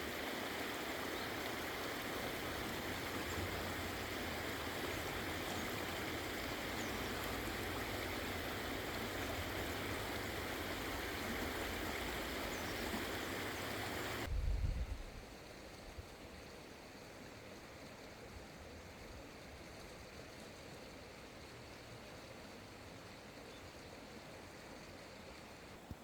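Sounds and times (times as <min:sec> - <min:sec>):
mountain stream flowing: 0:00.0 - 0:14.3, 0:15.3 - 0:26.0.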